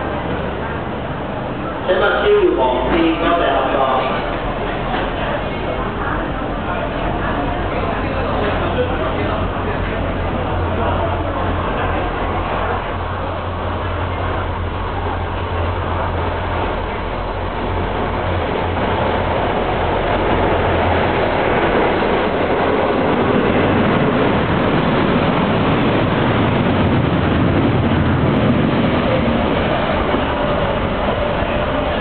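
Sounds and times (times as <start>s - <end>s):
diesel locomotive engine hum: 0.0s - 32.0s.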